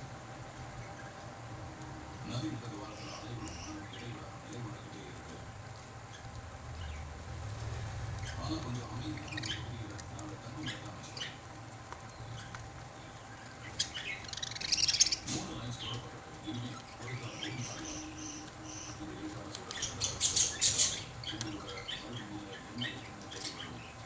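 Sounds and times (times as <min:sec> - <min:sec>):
lovebirds chirping and squawking: 0:02.1 - 0:24.0.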